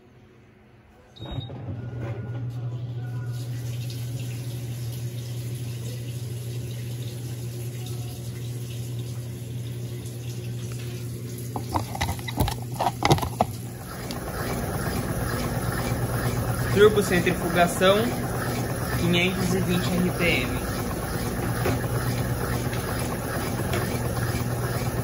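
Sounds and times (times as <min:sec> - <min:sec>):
washing machine drain pump humming: 0:01.2 - 0:25.0
water draining: 0:03.4 - 0:25.0.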